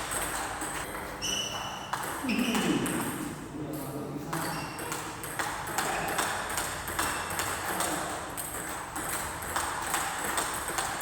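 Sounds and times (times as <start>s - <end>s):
racket hits ringing in a hall: 0.0s - 11.0s.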